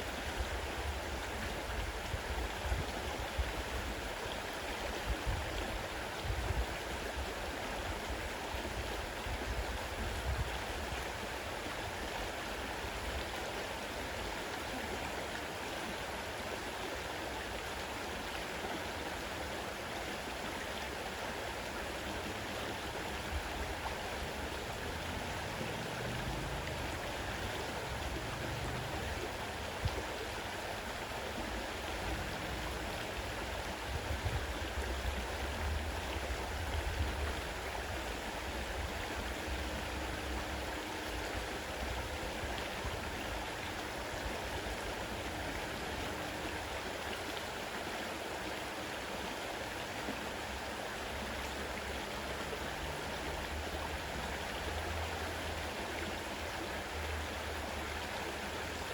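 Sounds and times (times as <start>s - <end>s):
river rushing: 0.0s - 58.9s.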